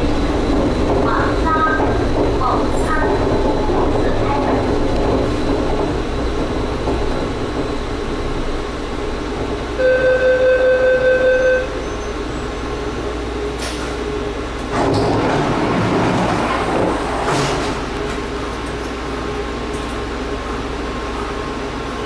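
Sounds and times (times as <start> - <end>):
train car running noise: 0.0 - 22.0.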